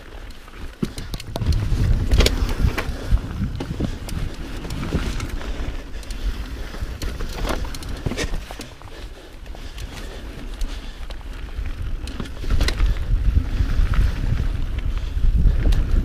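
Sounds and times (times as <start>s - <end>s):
bike rattling clicks and knocks: 0.0s - 16.0s
tyres rumbling over trail: 0.0s - 16.0s
wind buffeting microphone: 0.8s - 16.0s.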